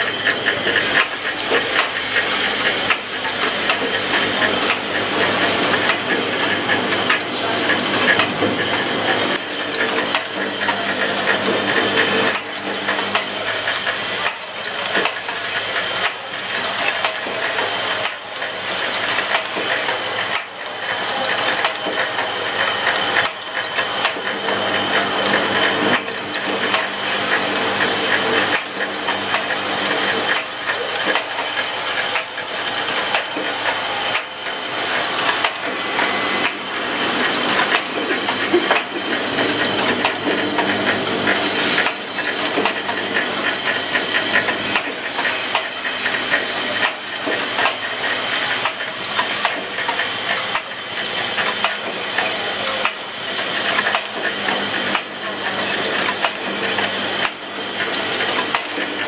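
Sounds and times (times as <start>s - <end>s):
assembly machine clicks and clacks: 0.0s - 59.0s
machine hum: 0.0s - 59.0s.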